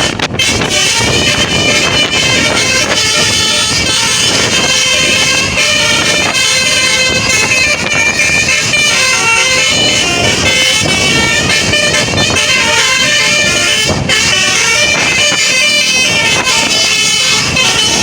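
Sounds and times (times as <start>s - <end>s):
bus musical horn playing a tune: 0.0s - 18.0s.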